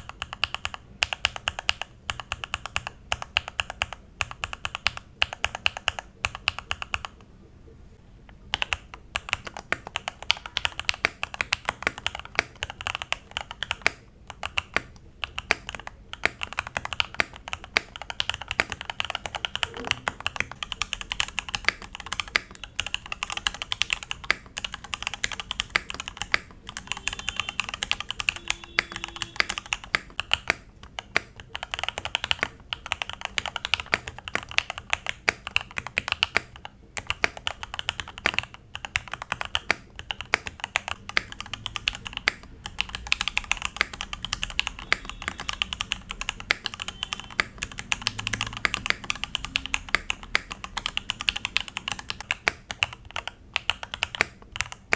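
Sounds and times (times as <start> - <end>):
mechanical keyboard typing: 0.0 - 7.2, 8.3 - 54.9.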